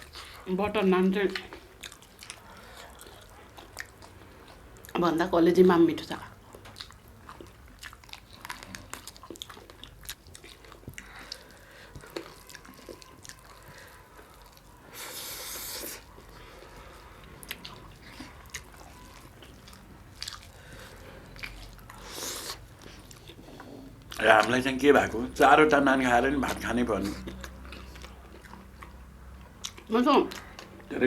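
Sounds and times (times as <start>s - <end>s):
person chewing food: 0.0s - 0.5s, 1.2s - 5.0s, 6.3s - 25.0s, 26.4s - 31.0s.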